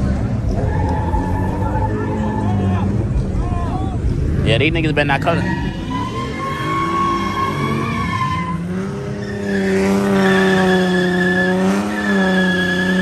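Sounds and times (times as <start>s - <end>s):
car engine at high revs: 0.0s - 13.0s
tires squealing: 0.0s - 13.0s.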